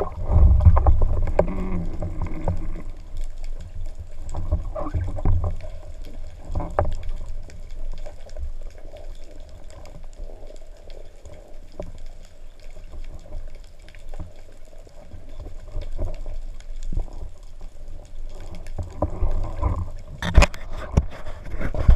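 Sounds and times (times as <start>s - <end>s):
muffled underwater sloshing: 0.0s - 21.9s.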